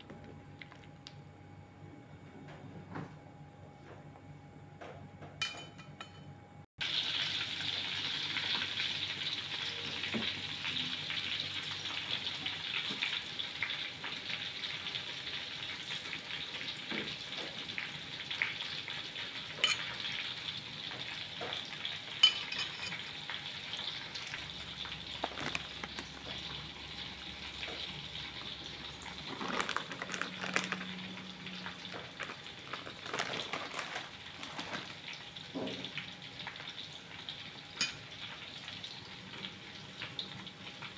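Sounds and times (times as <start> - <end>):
soup boiling and bubbling: 6.8 - 40.9.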